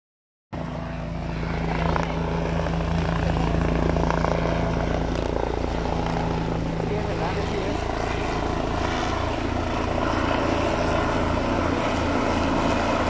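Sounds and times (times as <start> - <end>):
aircraft engine drone: 0.6 - 13.0.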